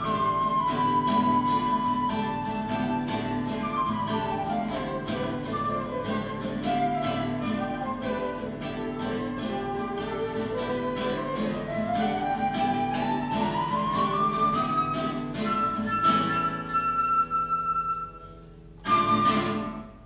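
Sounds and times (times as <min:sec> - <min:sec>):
flute melody: 0:00.0 - 0:20.0
plucked guitar: 0:00.0 - 0:20.0.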